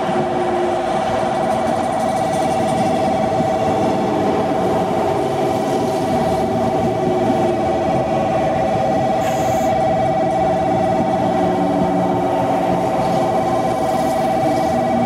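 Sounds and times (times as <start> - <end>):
railway warning bell ringing: 0.0 - 15.0
train and station rumble: 0.0 - 15.0.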